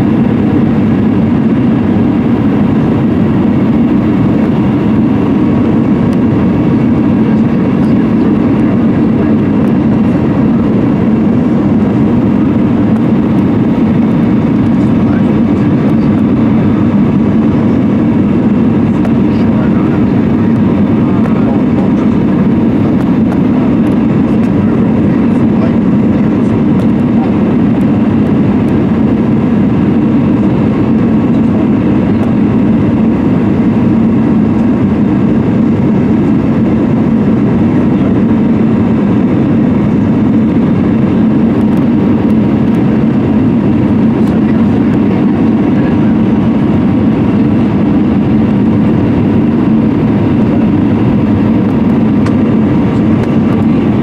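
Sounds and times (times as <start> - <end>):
aircraft engines droning: 0.0 - 54.0.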